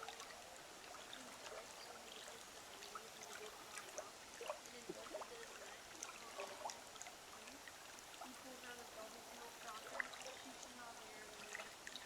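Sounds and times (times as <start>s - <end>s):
running water gurgling: 0.0s - 12.0s.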